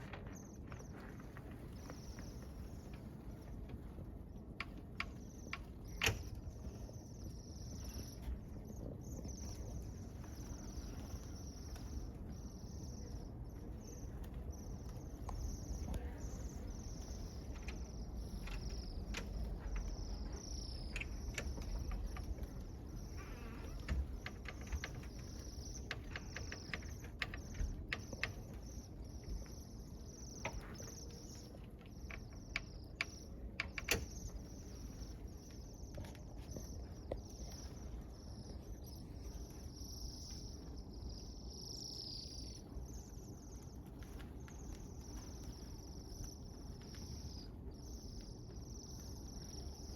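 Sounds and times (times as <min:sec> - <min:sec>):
high-pitched chirping chorus: 0:00.0 - 0:03.5, 0:05.0 - 0:49.9.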